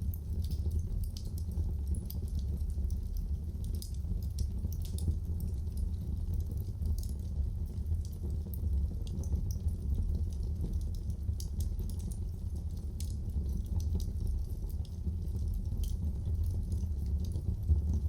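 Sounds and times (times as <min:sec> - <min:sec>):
fire crackling in a fireplace: 0:00.0 - 0:18.0.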